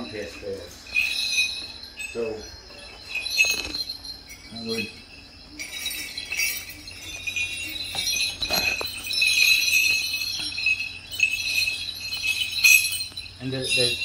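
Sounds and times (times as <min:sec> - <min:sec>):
brass bells jingling: 0:00.0 - 0:14.0.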